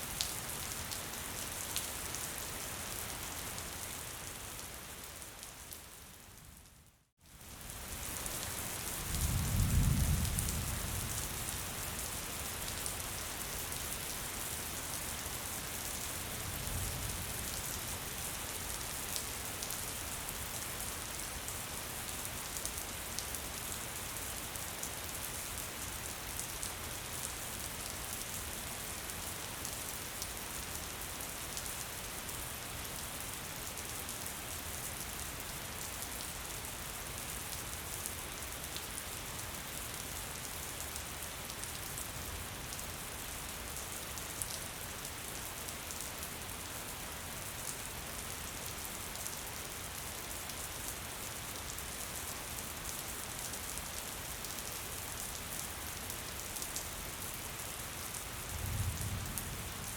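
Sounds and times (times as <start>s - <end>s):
light rain falling: 0.0s - 59.9s.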